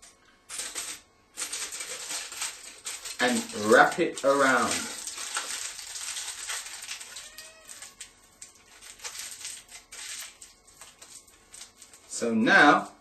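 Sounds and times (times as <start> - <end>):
aluminium foil crinkling: 0.5 - 13.0.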